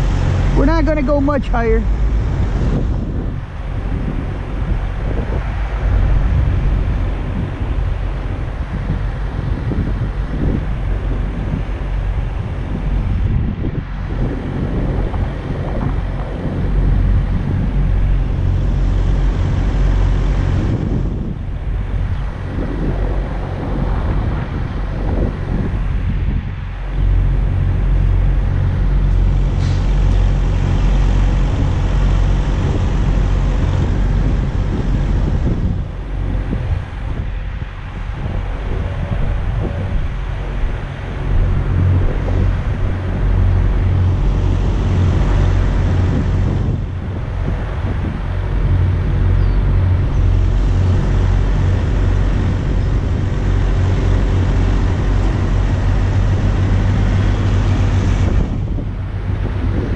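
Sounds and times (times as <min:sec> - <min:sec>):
vehicle engines idling: 0:00.0 - 0:59.9
wind on microphone: 0:00.0 - 0:59.9.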